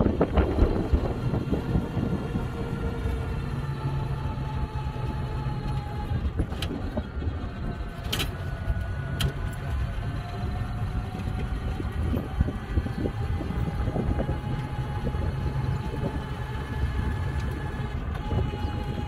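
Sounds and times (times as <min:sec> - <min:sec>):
tyre and road rumble: 0:00.0 - 0:19.0
wind noise: 0:00.0 - 0:19.0.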